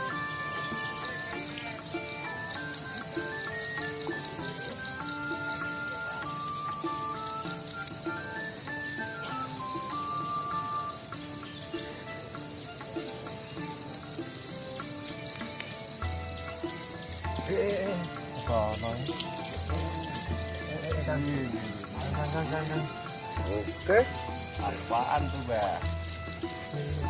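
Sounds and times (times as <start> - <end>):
background music with low beat: 0.0 - 27.0
insects chirring: 0.0 - 27.0.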